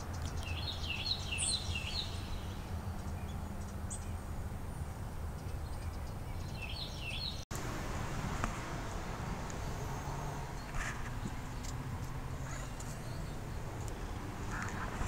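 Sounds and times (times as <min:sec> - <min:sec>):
small bird chirping: 0:00.0 - 0:07.4, 0:09.4 - 0:15.0
outdoor background noise: 0:00.0 - 0:15.0.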